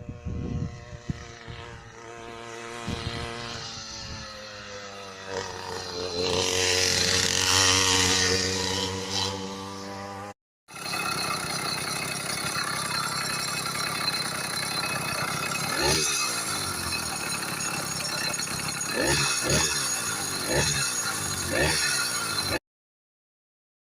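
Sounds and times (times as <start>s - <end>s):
two-stroke engine running: 0.0s - 22.6s.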